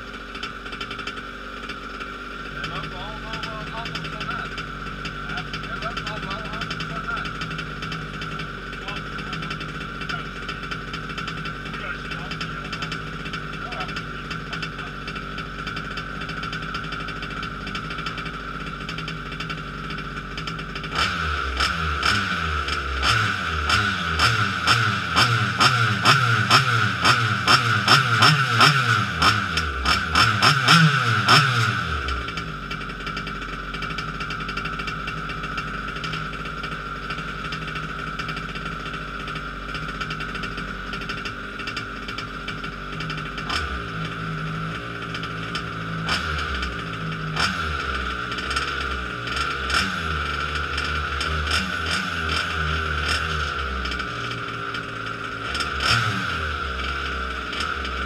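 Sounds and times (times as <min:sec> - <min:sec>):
two-stroke engine revving and idling: 0:00.0 - 0:58.0.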